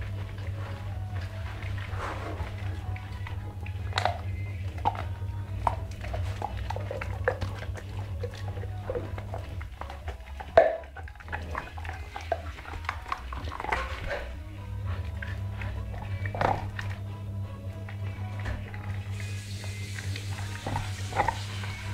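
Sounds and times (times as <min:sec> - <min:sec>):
dog gnawing a bone: 0:00.0 - 0:21.9.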